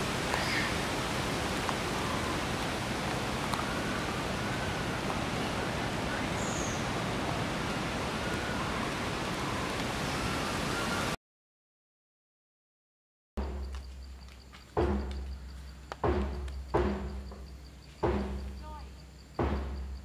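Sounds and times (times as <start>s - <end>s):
steady outdoor hiss: 0.0s - 11.2s, 13.4s - 20.0s
faint chirping calls: 0.3s - 0.9s, 1.8s - 11.1s, 13.6s - 20.0s.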